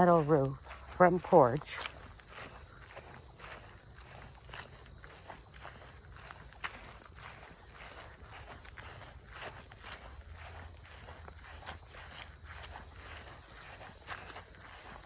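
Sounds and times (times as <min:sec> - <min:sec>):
crickets chirping: 0:00.0 - 0:15.0
footsteps crunching on a trail: 0:00.0 - 0:15.0.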